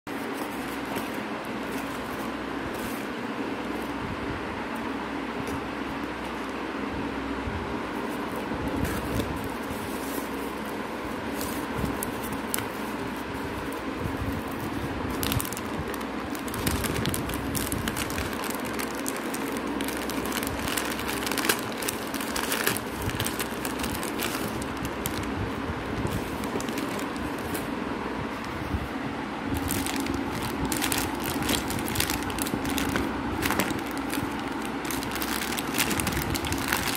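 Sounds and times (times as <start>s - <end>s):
steady background hum: 0.0s - 36.9s
cardboard and plastic bag handling: 0.1s - 4.0s, 7.9s - 27.8s, 29.5s - 36.9s.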